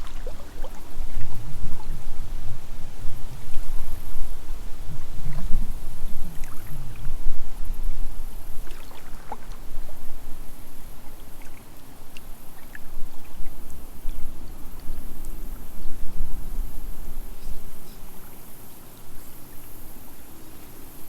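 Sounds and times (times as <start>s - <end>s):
wind buffeting microphone: 0.0s - 11.4s, 12.3s - 18.6s
paddle splashing water: 0.0s - 19.6s.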